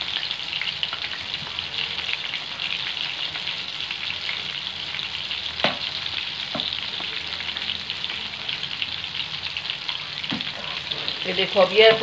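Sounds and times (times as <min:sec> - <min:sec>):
prawns sizzling in hot oil: 0:00.0 - 0:12.0.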